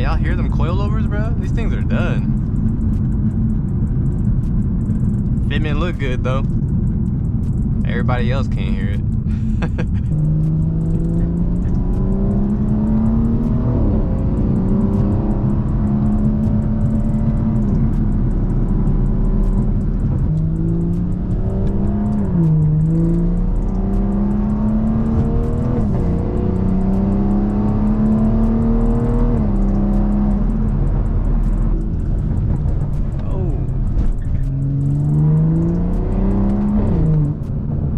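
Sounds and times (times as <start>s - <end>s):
car engine revving: 0.0s - 37.9s
low road rumble: 0.0s - 37.9s.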